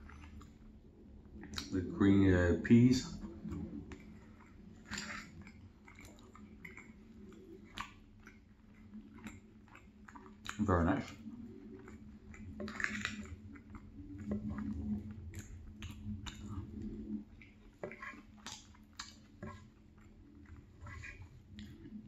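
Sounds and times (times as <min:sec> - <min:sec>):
chewing with wet mouth clicks: 0:00.0 - 0:22.0.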